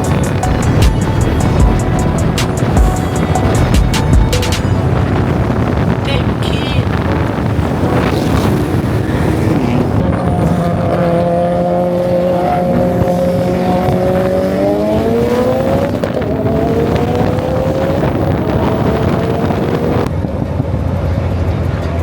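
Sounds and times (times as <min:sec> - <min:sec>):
car engine accelerating: 0:00.0 - 0:22.0
road noise: 0:00.0 - 0:22.0.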